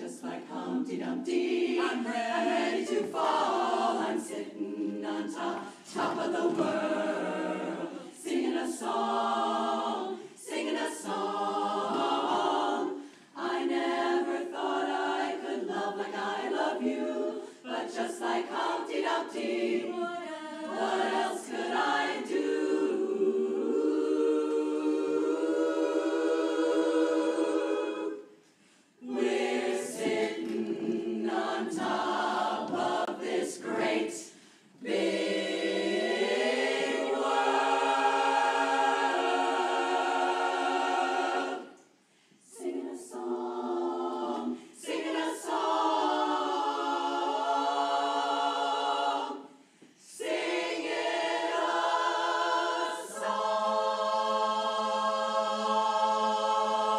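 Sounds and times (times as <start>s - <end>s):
women's chorus singing a cappella: 0.0s - 56.9s.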